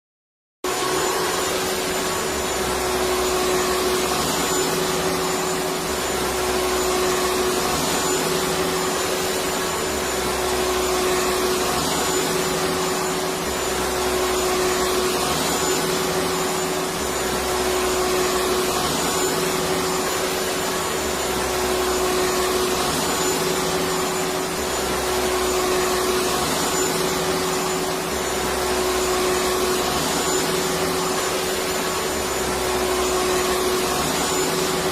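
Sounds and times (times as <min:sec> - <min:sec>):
vacuum cleaner motor running: 0:00.7 - 0:34.9.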